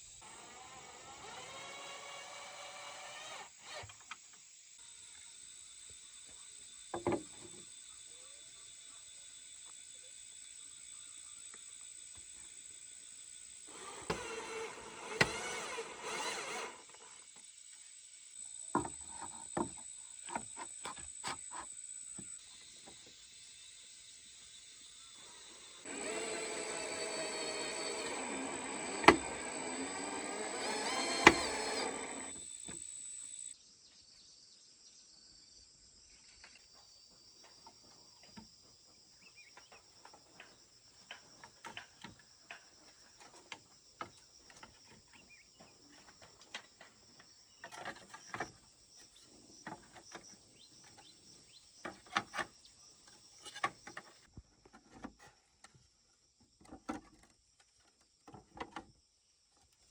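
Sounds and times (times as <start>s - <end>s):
insects trilling: 0.0s - 54.2s.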